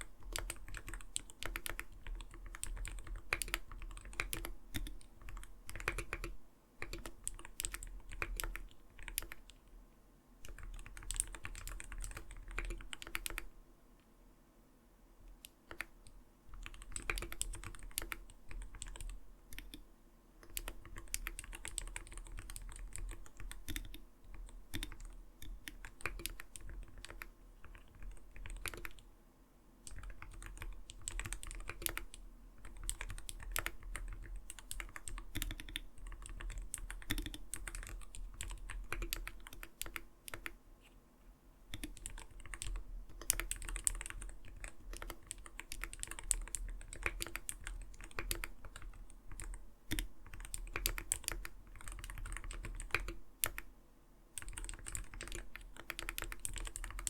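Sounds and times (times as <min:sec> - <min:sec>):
mechanical keyboard typing: 0:00.0 - 0:09.6, 0:10.4 - 0:13.5, 0:15.3 - 0:19.8, 0:20.4 - 0:29.0, 0:29.8 - 0:40.6, 0:41.7 - 0:53.7, 0:54.4 - 0:57.0.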